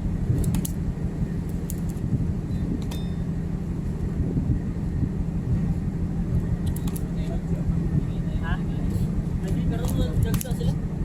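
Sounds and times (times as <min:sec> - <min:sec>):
ship machinery rumbling: 0:00.0 - 0:11.0.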